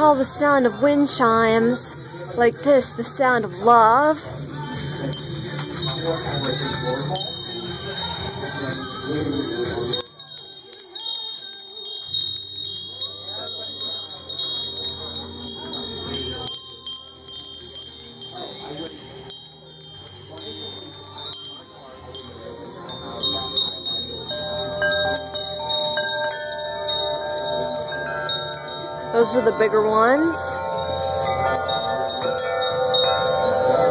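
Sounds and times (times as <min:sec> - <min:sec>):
metal wind chimes tinkling: 0:00.0 - 0:33.9.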